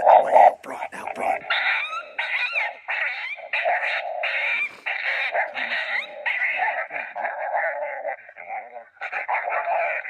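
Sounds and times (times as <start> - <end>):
coyote yips and whines: 1.5 - 10.0.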